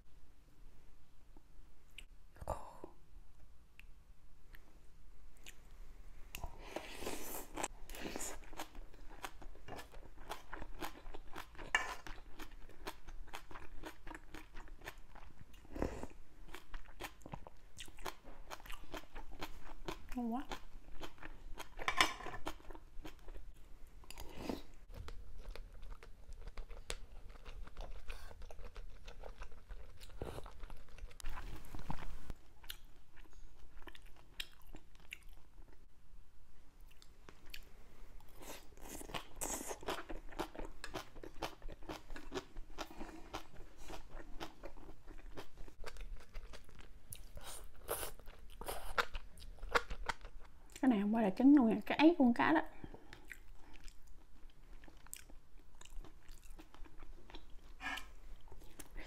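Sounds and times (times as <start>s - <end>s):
chewing and crunching food: 6.3s - 35.9s, 36.8s - 50.9s, 52.8s - 59.0s.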